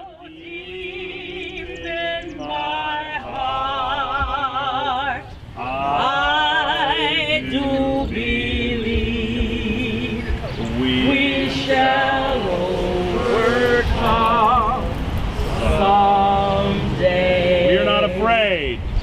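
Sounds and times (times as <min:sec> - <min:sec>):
people singing unaccompanied: 0:00.0 - 0:19.0.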